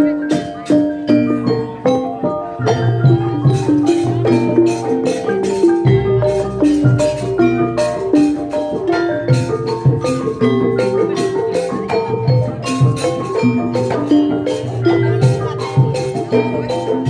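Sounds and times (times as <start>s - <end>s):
mallet-struck pitched percussion melody: 0.0s - 17.0s.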